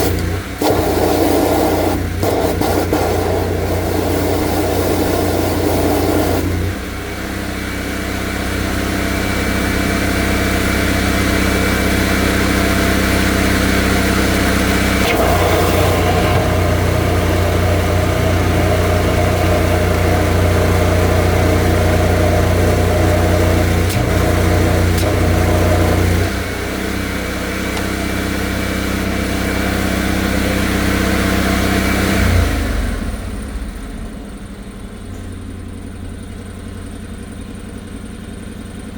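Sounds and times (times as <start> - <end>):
drain jetter engine running: 0.0 - 38.9.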